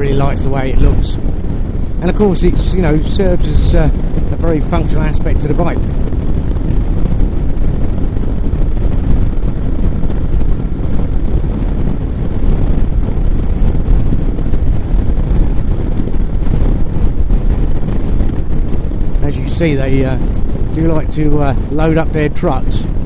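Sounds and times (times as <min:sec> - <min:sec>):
road noise: 0:00.0 - 0:23.0
wind rushing over microphone: 0:00.0 - 0:23.0.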